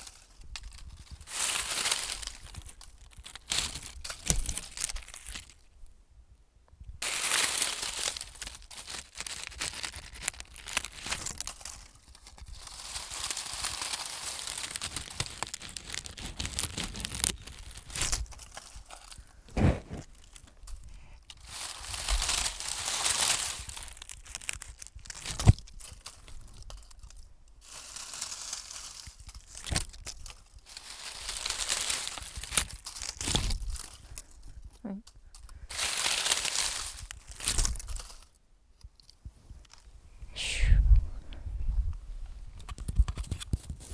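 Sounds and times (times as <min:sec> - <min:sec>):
crinkling rustles: 0:00.0 - 0:05.8, 0:07.0 - 0:40.0, 0:42.0 - 0:43.9.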